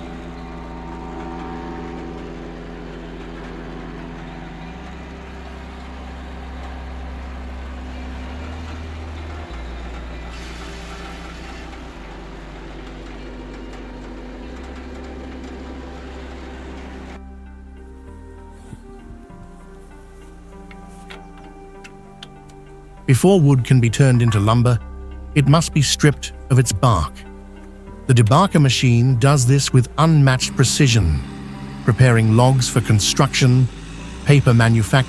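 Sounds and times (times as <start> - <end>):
heavy machinery engine drone: 0.0 - 35.0.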